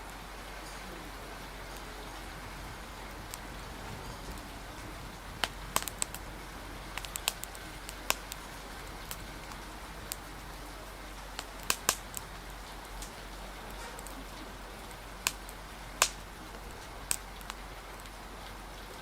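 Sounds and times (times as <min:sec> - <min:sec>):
rain hissing: 0:00.0 - 0:19.0
wood fire crackling and popping: 0:00.0 - 0:19.0.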